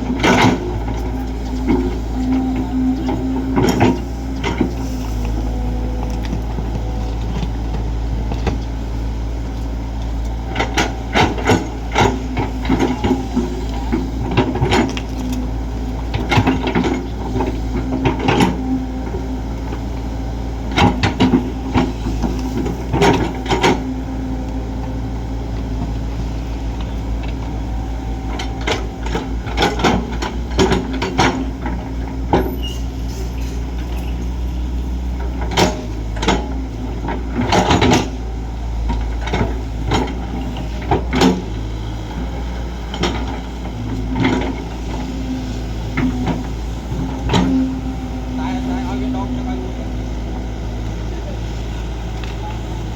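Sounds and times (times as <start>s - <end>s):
digging knocks and clanks: 0.0s - 51.0s
excavator diesel engine running: 0.0s - 52.9s.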